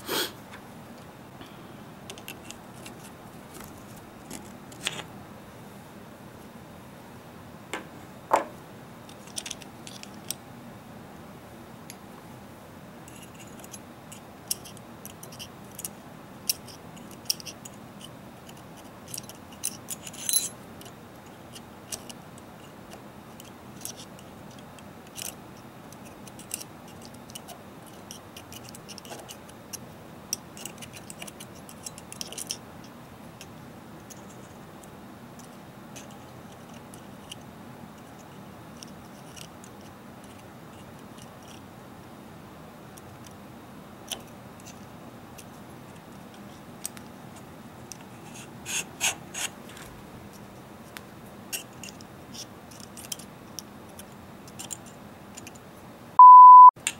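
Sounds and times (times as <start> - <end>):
faint steady hiss: 0.0 - 56.9.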